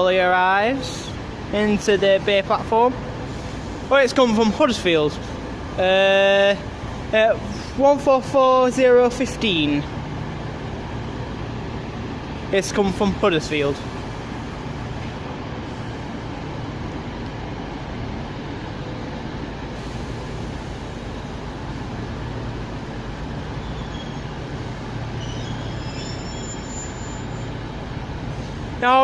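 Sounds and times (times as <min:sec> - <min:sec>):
diesel train engine idling: 0:00.0 - 0:29.0
station noise: 0:00.0 - 0:29.0.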